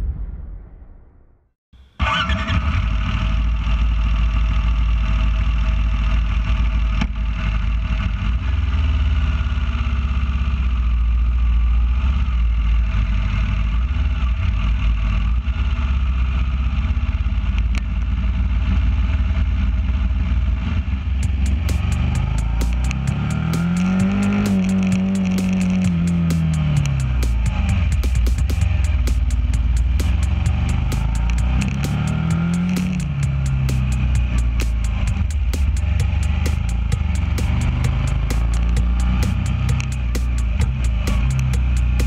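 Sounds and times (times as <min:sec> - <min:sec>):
motorcycle engine running: 0:01.8 - 0:42.0.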